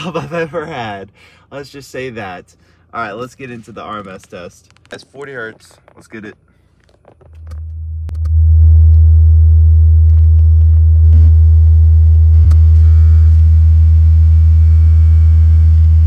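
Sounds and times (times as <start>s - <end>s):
deep subwoofer test tone hum: 0.0s - 16.0s.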